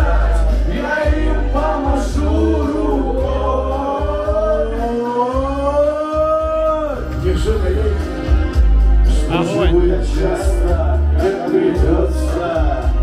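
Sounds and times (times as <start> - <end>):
backing track with bass beat: 0.0 - 13.0
karaoke singing through microphone: 0.0 - 13.0.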